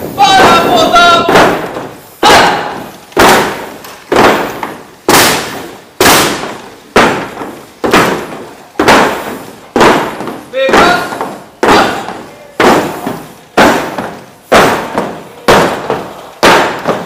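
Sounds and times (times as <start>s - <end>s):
boots stamping on wooden walkway: 0.0s - 17.0s.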